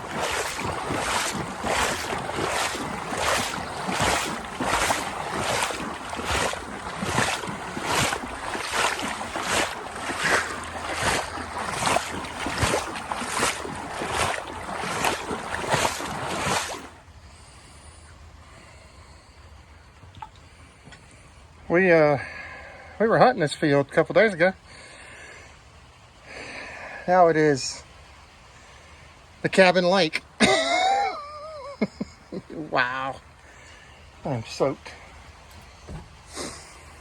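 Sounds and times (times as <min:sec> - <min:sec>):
wading through water: 0:00.0 - 0:23.2, 0:30.4 - 0:37.0.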